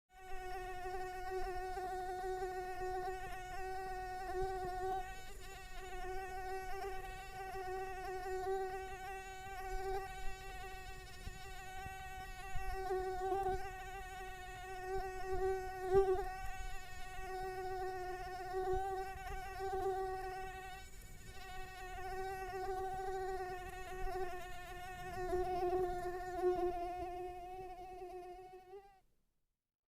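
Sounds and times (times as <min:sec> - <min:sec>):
mosquito buzzing: 0:00.1 - 0:29.0.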